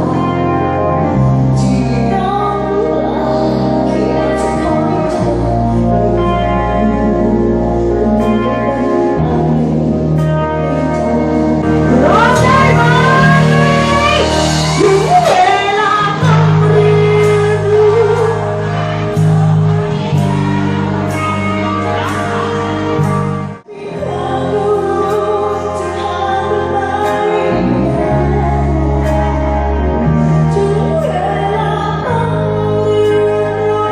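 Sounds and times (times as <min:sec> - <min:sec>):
band music with singer: 0:00.0 - 0:33.9.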